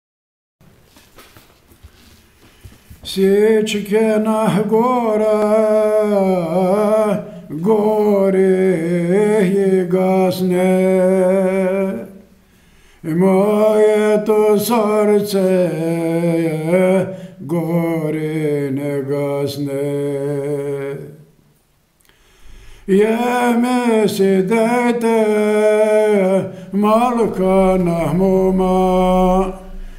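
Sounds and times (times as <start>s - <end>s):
man singing unaccompanied: 3.0s - 12.3s, 13.0s - 21.3s, 22.9s - 29.9s.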